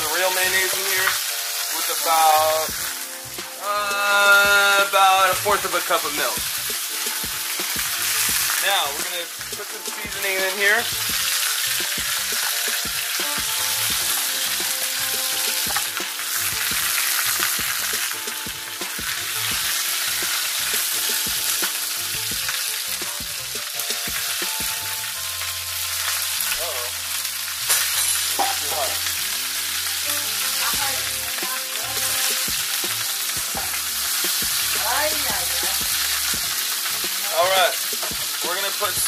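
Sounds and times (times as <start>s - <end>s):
chicken sizzling in a pan: 0.0s - 39.0s.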